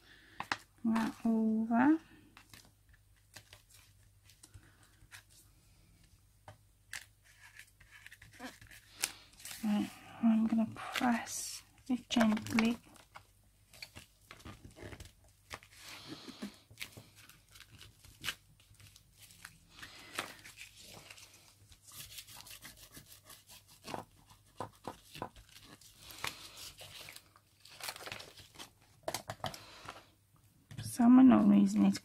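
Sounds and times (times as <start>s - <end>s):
paper rustling and crackling: 2.2s - 5.4s, 6.9s - 30.1s.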